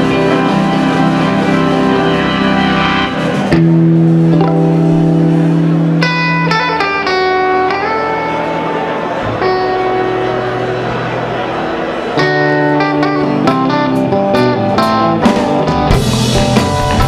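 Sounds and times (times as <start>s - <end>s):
live band holding chords: 0.0s - 17.0s.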